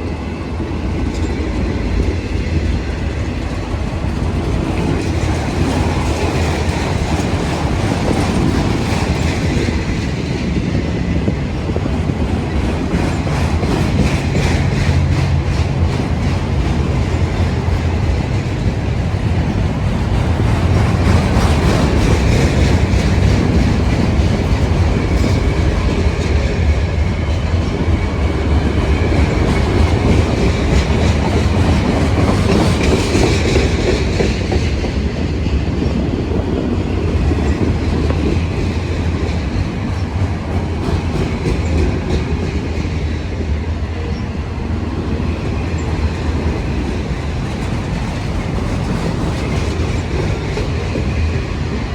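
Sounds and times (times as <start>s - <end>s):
train wheels clacking on rails: 0.0s - 51.9s.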